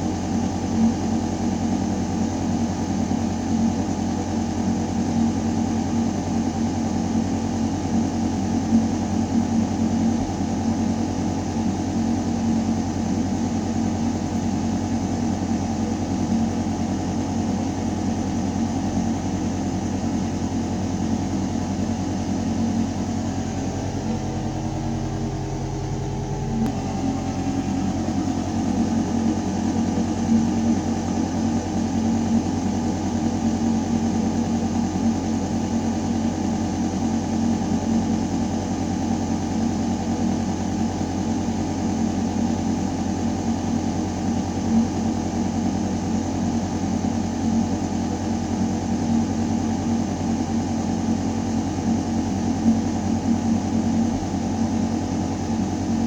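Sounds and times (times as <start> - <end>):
pitched ventilation drone: 0.0 - 56.0
ventilation mechanical hum: 0.0 - 56.0.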